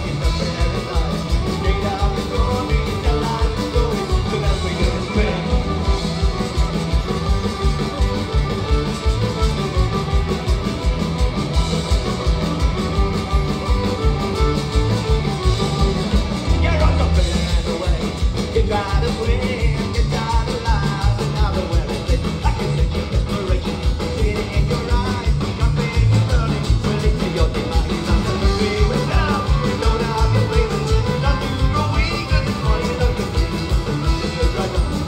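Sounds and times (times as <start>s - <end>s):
person singing: 0.0s - 7.2s, 13.4s - 35.0s
live band playing: 0.0s - 35.0s.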